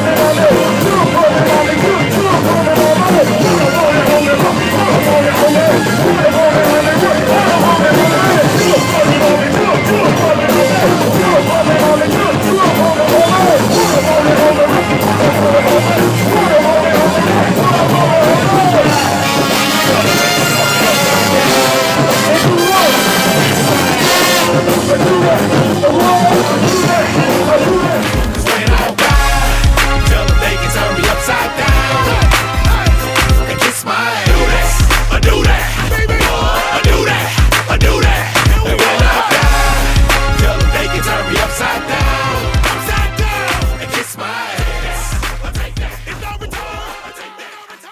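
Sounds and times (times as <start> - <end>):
live band playing dance music: 0.0 - 47.7.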